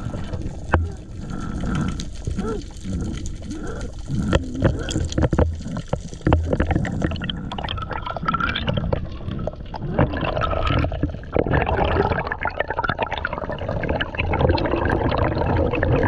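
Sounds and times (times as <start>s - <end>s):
underwater gurgling and sloshing: 0.0s - 16.0s.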